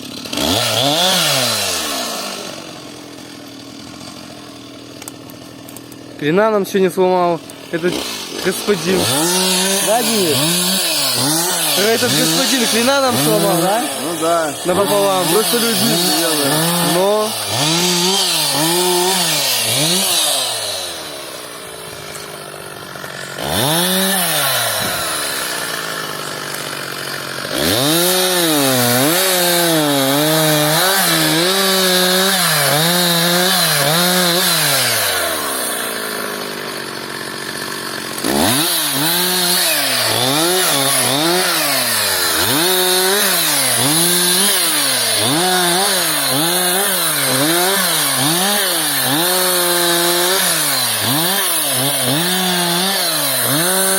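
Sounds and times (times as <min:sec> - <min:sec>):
chainsaw revving cutting wood: 0:00.0 - 0:53.9.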